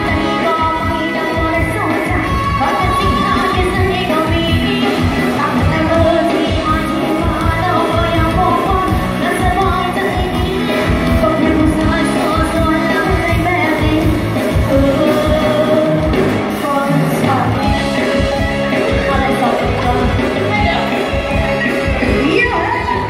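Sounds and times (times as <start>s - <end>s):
amplified band playing: 0.0s - 23.0s
person singing live: 0.0s - 23.0s.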